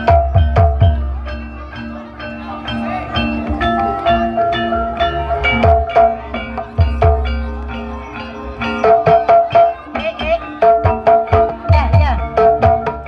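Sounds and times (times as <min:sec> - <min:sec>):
metallophones and gongs ringing: 0:00.0 - 0:13.0.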